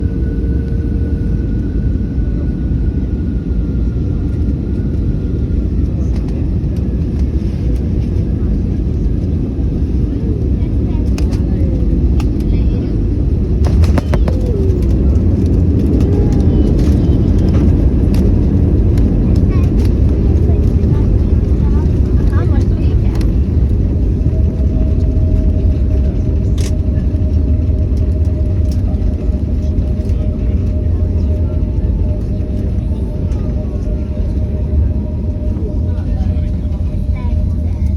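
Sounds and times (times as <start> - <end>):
faint jet whine: 0.0 - 37.9
jet airliner low rumble: 0.0 - 37.9.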